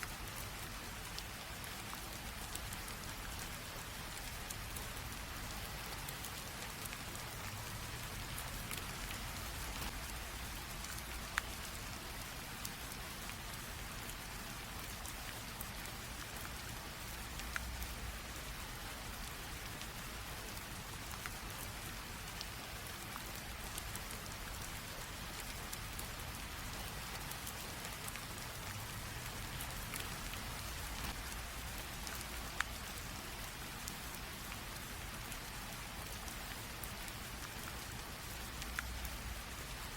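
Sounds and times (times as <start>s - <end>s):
light rain pattering: 0.0s - 39.9s
raindrops ticking: 0.0s - 39.9s.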